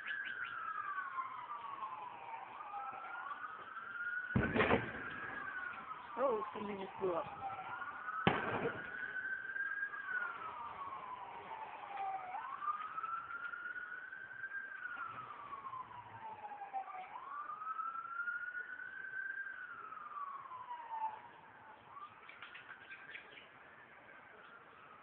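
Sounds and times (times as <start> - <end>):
emergency siren wailing: 0.0 - 25.0.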